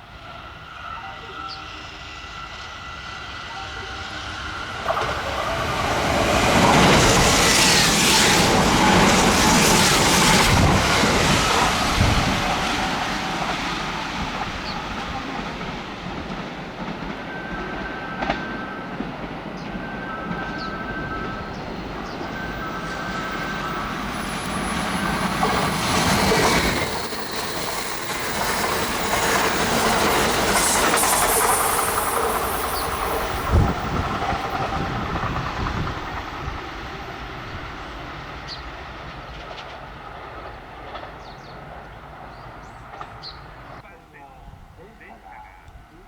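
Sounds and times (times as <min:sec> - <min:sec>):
train wheels clattering on rails: 0:04.6 - 0:43.8.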